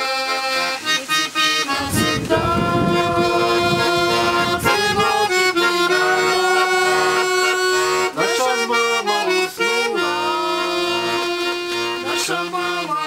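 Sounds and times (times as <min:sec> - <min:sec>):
accordion playing chords: 0:00.0 - 0:13.0
person singing folk song: 0:00.0 - 0:13.0.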